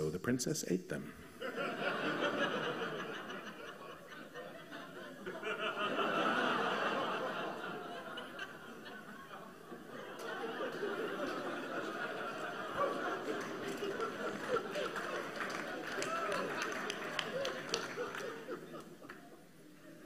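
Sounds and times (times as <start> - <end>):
audience laughing: 1.2 - 20.0.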